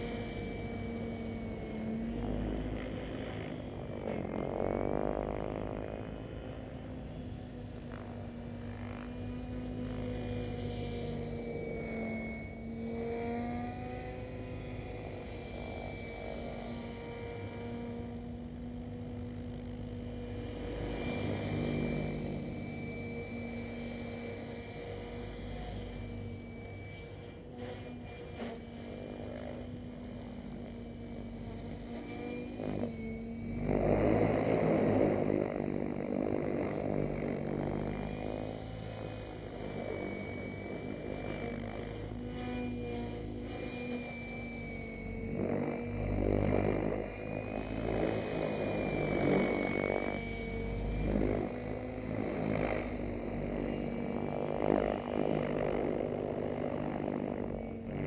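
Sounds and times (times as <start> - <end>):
low hum: 0.0 - 58.0
rc helicopter motor whine: 0.0 - 58.0.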